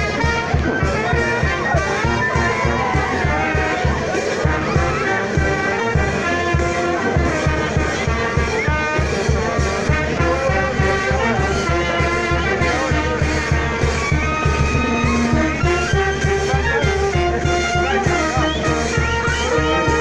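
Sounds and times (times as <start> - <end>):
bass drum beat: 0.0 - 20.0
brass band held notes: 0.0 - 20.0.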